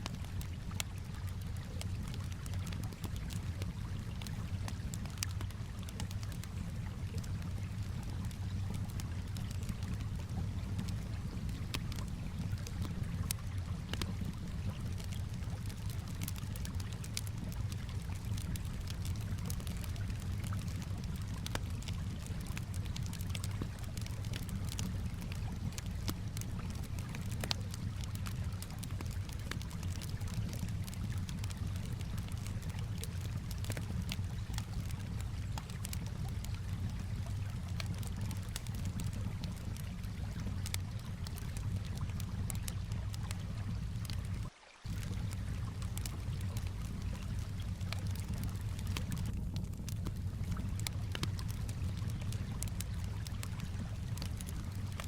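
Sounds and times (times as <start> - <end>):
calm water: 0.0 - 55.0
wood fire crackling and popping: 0.0 - 55.0.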